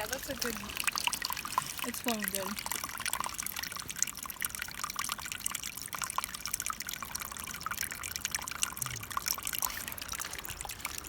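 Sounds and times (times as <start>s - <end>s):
creek trickling: 0.0s - 11.0s
water splashes and drips: 0.0s - 11.0s.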